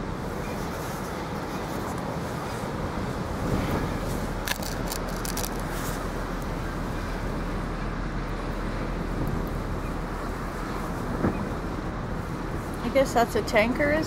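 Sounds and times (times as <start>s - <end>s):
boat engine drone: 0.0s - 14.0s
wind on microphone: 0.0s - 14.0s.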